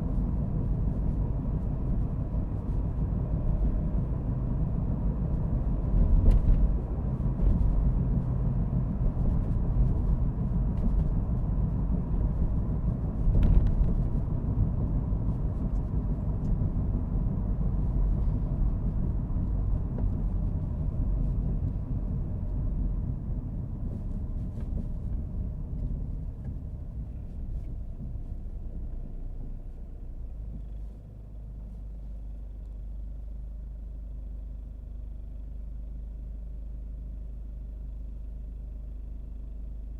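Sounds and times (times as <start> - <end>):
car tyre and engine rumble: 0.0 - 39.9.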